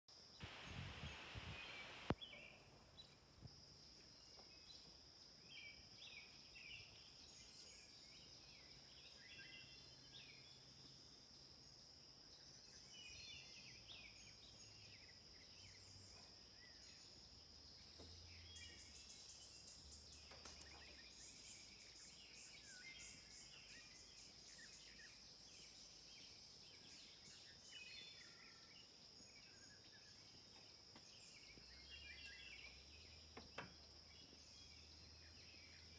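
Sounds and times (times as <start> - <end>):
bird chirps: 0.4 - 3.2, 3.9 - 35.9.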